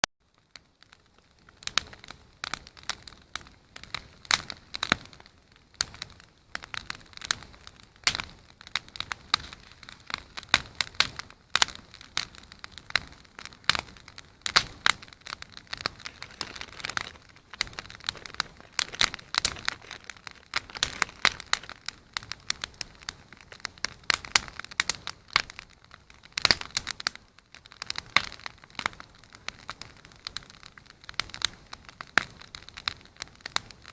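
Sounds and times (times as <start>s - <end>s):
campfire crackling and popping: 0.3s - 33.9s.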